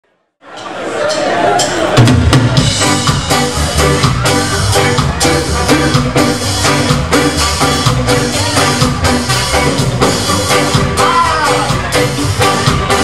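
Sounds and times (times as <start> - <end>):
live ska band playing: 0.5 - 13.0.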